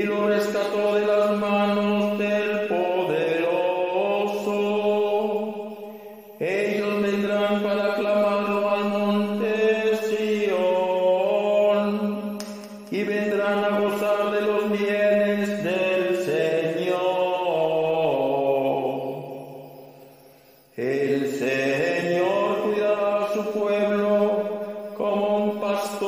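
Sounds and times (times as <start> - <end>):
chanted psalm singing: 0.0 - 26.0.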